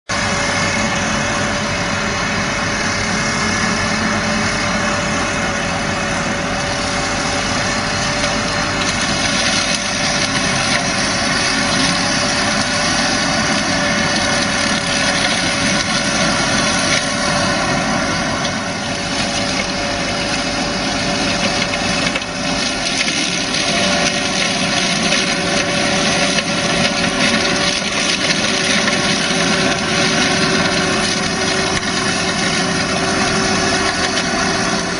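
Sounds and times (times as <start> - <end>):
steady whining tone: 0.1 - 34.9
tractor engine running: 0.1 - 34.9.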